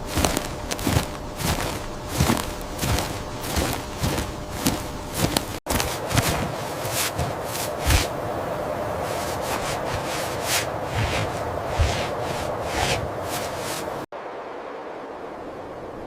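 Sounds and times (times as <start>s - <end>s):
footsteps: 0.0s - 8.2s, 8.9s - 14.1s
rubbing and scraping: 0.0s - 8.2s, 9.0s - 14.1s
steady hiss: 0.0s - 16.0s.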